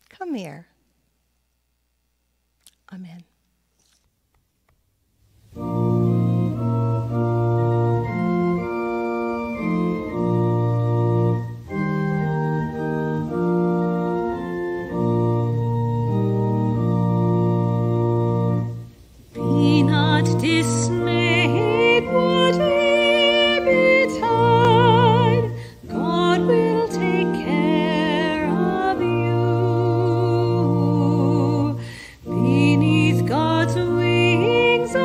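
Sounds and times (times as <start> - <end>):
organ playing slow chords: 5.4 - 35.0.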